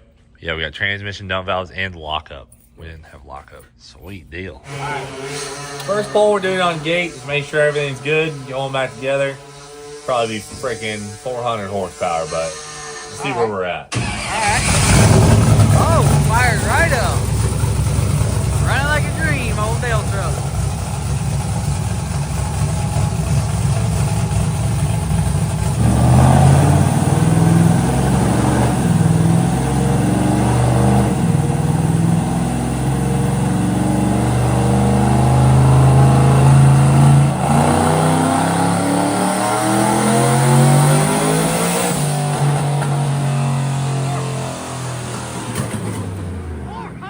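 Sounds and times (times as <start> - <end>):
engine running on dyno: 4.7 - 12.0, 12.8 - 47.0.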